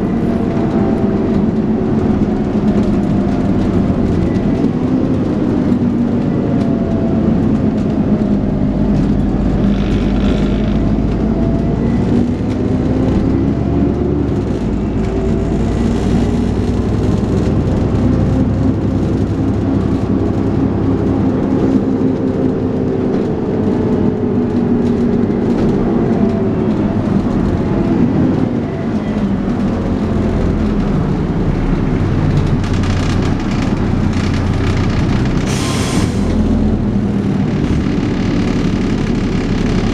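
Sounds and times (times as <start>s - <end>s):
bus engine working hard: 0.0s - 39.9s.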